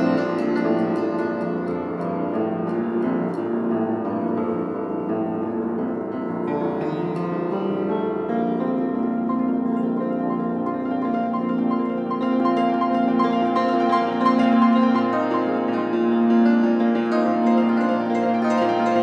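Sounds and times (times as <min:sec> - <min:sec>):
piano improvisation: 0:00.0 - 0:19.0.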